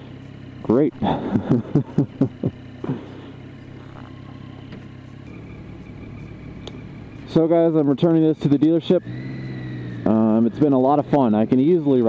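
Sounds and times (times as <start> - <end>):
motorcycle engine cruising: 0.0 - 12.0
road and wind noise: 0.0 - 12.0.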